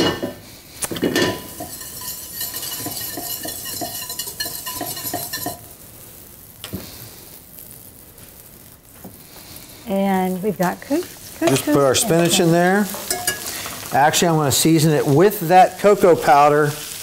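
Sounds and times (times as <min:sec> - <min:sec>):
butter sizzling in a pan: 0:00.0 - 0:17.0.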